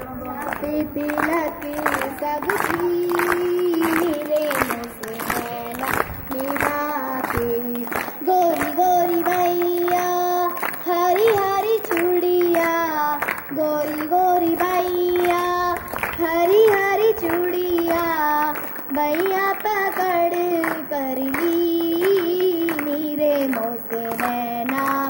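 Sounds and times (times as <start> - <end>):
girl singing into a microphone: 0.0 - 25.0.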